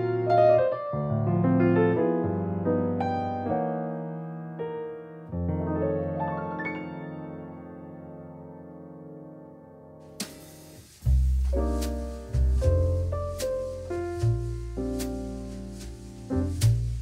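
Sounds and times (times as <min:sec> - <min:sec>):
soft piano chords: 0:00.0 - 0:10.8, 0:11.4 - 0:17.0.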